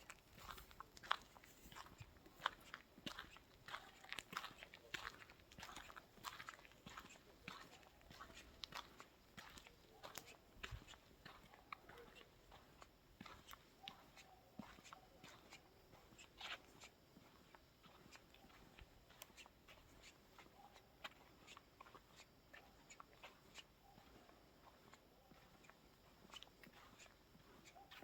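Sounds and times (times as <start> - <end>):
faint footsteps on a path: 0.0 - 28.0.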